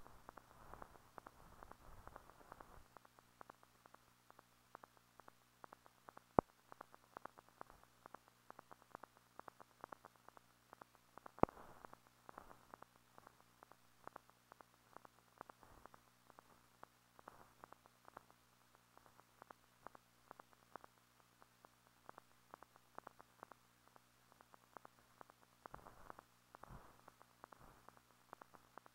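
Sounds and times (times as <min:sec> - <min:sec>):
faint steady hum: 0:00.0 - 0:28.9
film surface crackle: 0:00.0 - 0:28.9.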